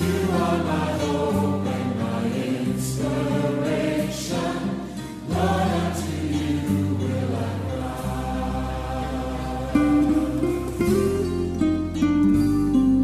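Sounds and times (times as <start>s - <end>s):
choir and congregation singing: 0.0s - 11.6s
instrumental backing: 0.0s - 13.0s.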